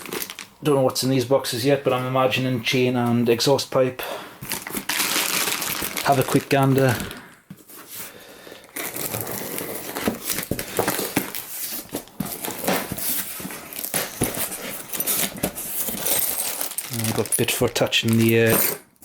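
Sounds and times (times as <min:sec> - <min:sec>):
packaging rustling and crinkling: 0:00.0 - 0:00.6, 0:04.4 - 0:19.0.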